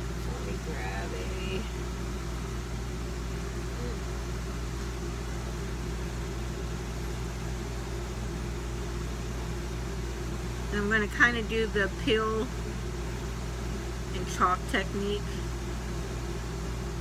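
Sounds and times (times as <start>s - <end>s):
low mechanical hum with hiss: 0.0s - 17.0s.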